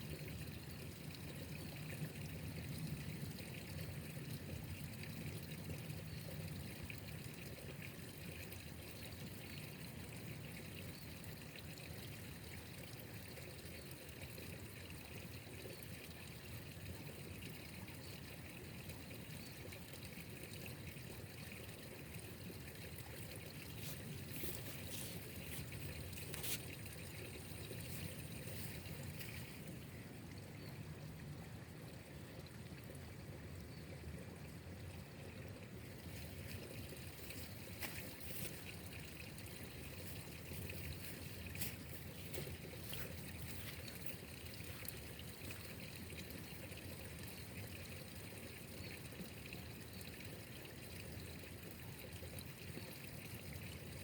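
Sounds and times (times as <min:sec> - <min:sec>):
water trickling and pouring: 0:00.0 - 0:54.0.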